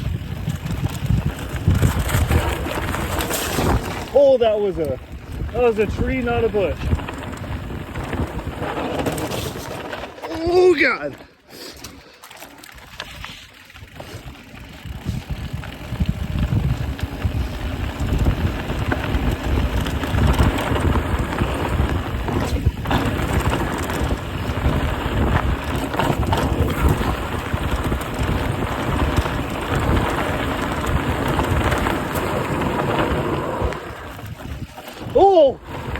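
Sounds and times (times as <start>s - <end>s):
vehicle rumbling over rutted ground: 0.0s - 10.1s, 13.1s - 35.9s.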